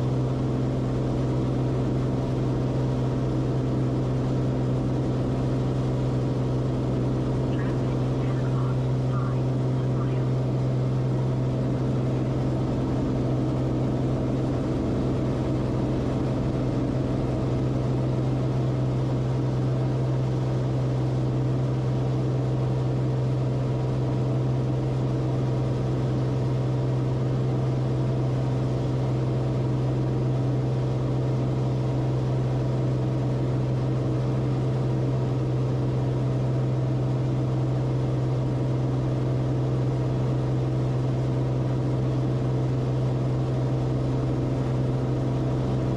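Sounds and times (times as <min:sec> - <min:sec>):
airplane engine and propeller drone: 0:00.0 - 0:45.9.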